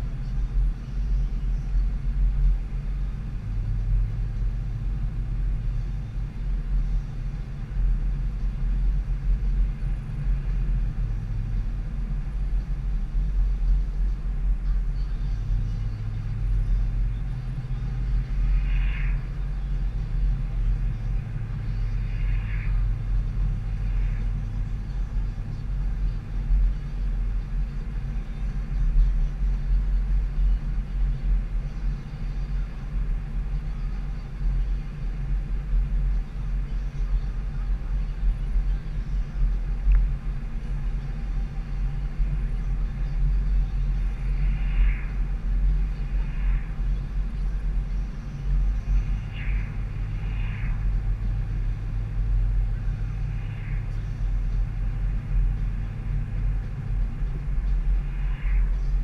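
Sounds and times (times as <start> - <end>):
car engine and tyres rumbling: 0.0 - 59.0
steady hum: 0.0 - 59.0.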